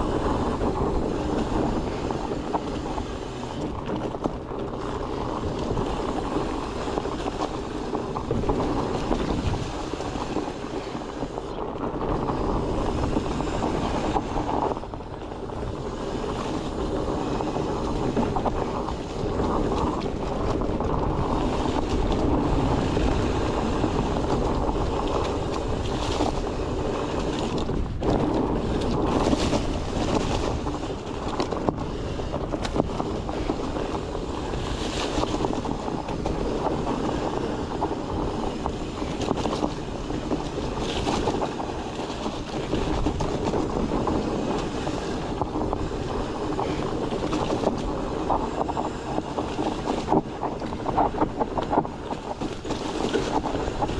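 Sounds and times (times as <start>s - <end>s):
bike tyres rolling over leaves: 0.0s - 47.2s
wind on microphone: 0.0s - 53.9s.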